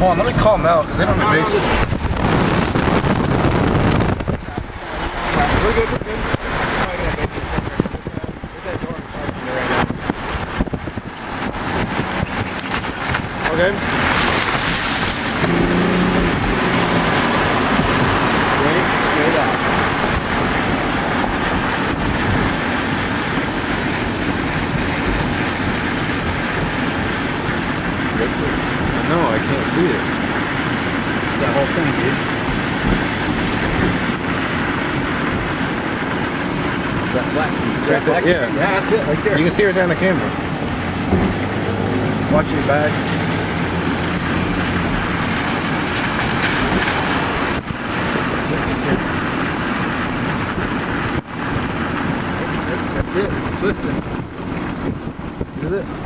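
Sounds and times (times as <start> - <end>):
car road noise: 0.0 - 56.0
low vehicle rumble: 0.0 - 56.0
rushing wind: 0.0 - 56.0.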